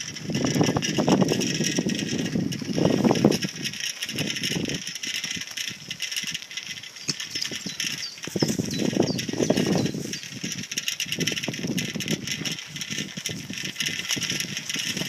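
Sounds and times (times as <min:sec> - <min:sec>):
bicycle rattling over bumps: 0:00.0 - 0:15.0.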